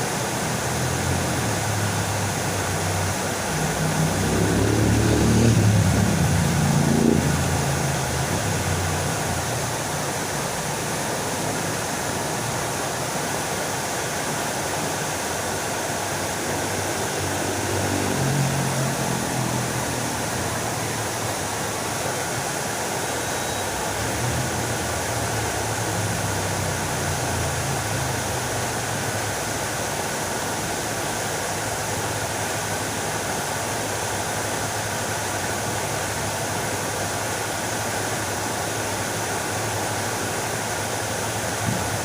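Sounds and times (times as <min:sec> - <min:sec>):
fountain water splashing: 0:00.0 - 0:42.0.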